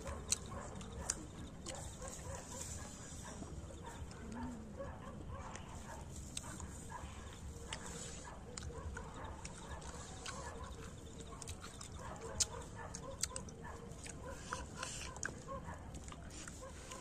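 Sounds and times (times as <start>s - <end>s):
people chewing and smacking: 0.0s - 17.0s.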